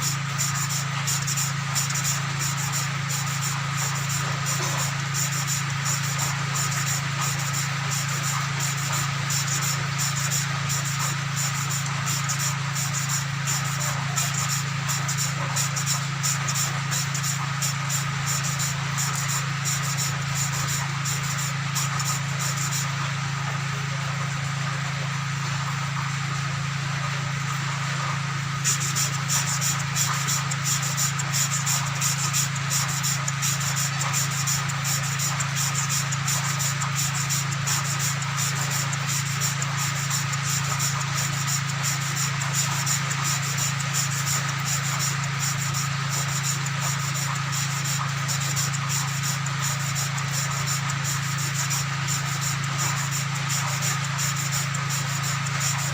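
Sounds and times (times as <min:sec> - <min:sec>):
gritty scratching of valve lapping: 0:00.0 - 0:24.0, 0:27.3 - 0:55.9
steady low hum: 0:00.0 - 0:55.9.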